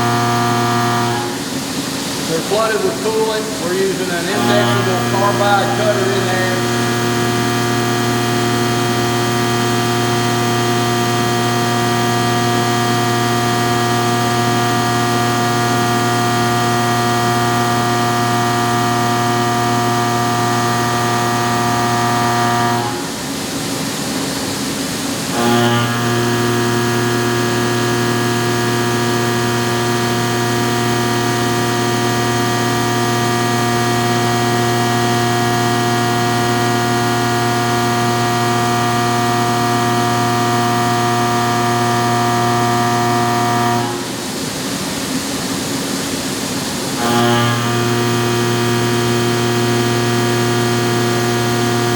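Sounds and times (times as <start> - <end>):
coolant hissing: 0.0 - 51.9
milling machine whine: 0.0 - 51.9.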